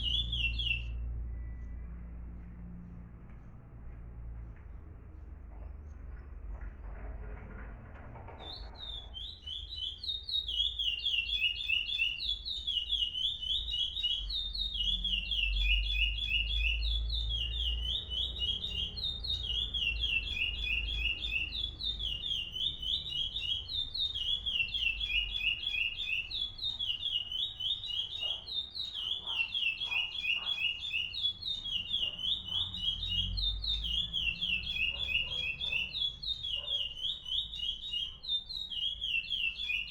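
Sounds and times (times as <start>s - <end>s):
songbird singing: 0.0s - 6.8s, 7.6s - 39.9s.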